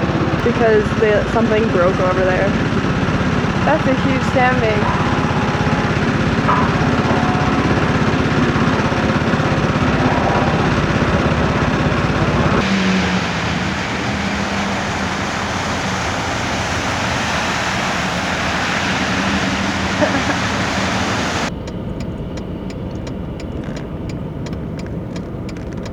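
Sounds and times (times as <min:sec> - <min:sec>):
engine running: 0:00.0 - 0:25.9.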